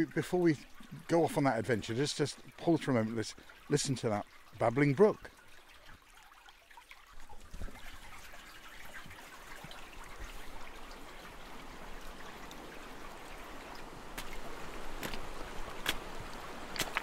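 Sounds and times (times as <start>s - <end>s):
brook water trickling: 0.0s - 17.0s.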